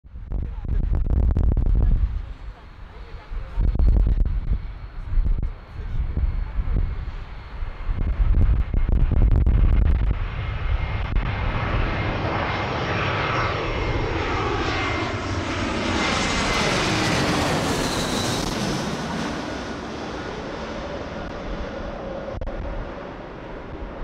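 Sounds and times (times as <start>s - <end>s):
jet airliner passing overhead: 0.2s - 24.0s.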